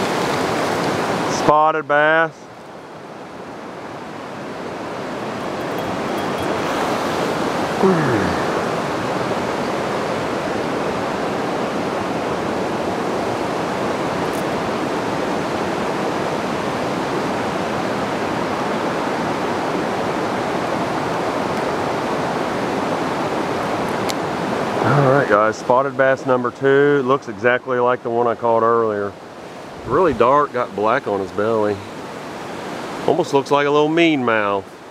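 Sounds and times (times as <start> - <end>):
river water rushing: 0.0 - 26.5, 28.0 - 34.9.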